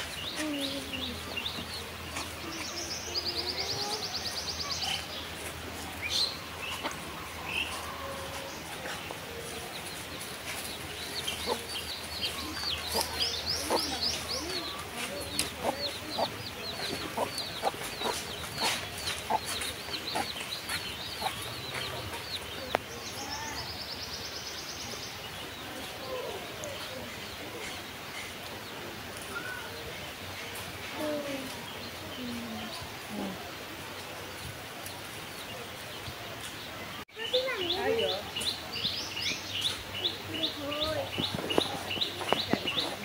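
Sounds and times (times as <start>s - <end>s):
birds high chirps: 0.0s - 43.0s.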